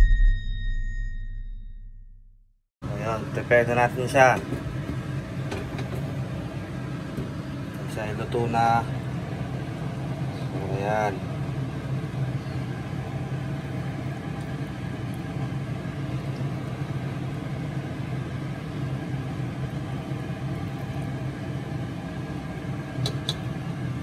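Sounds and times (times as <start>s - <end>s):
low machine hum: 2.8s - 24.0s.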